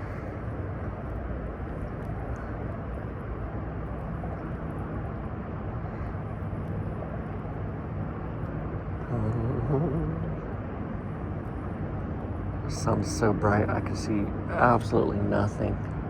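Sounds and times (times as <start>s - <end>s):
outdoor background rumble and hiss: 0.0s - 16.0s.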